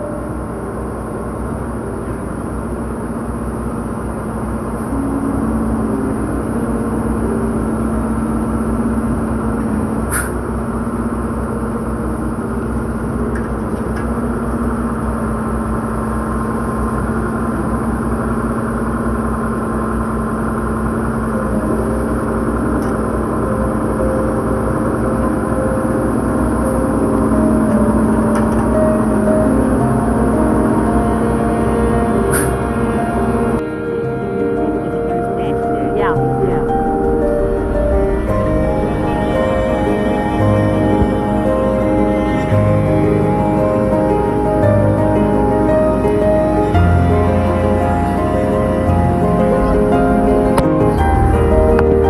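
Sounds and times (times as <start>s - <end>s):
truck engine running under load: 0.0s - 33.6s, 34.6s - 52.0s
constant high whine: 0.0s - 52.0s.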